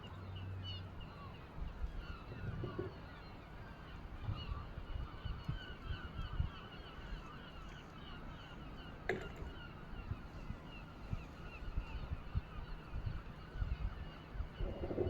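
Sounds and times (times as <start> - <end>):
wind rumbling on microphone: 1.0 - 15.0.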